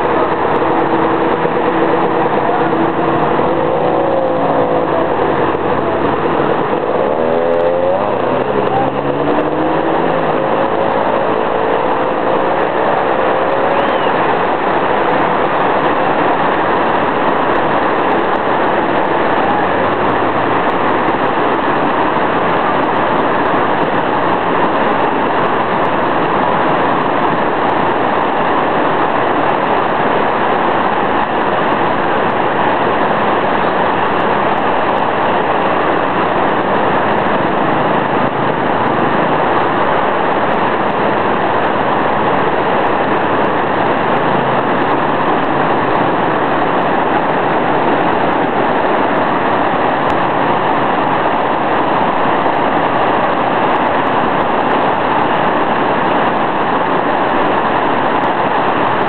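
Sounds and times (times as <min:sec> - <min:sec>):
muddy floodwater rushing: 0:00.0 - 0:59.0.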